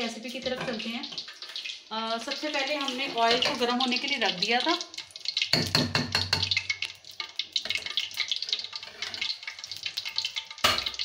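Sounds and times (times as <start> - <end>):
hot oil sizzling in a pan: 0.0 - 11.0.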